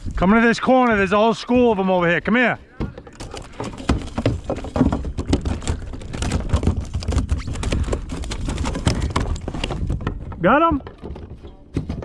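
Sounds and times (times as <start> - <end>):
rapid irregular clicks and knocks: 0.0 - 12.0.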